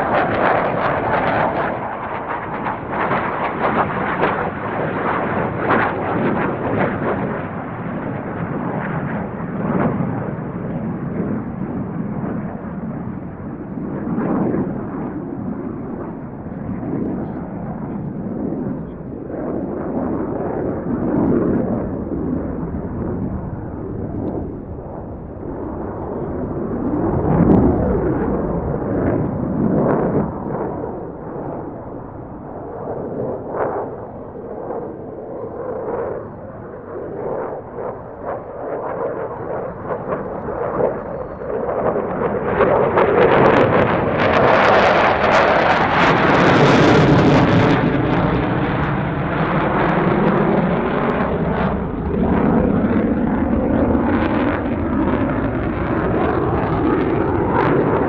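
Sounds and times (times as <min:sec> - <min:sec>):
distant jet rumble: 0:00.0 - 0:58.0.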